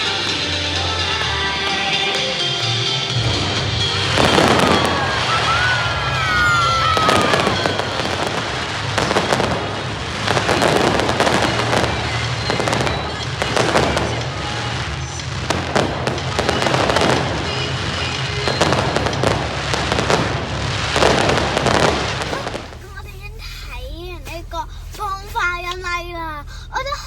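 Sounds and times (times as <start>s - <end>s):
music playing: 0.0s - 22.8s
fireworks bangs and crackling: 0.0s - 23.0s.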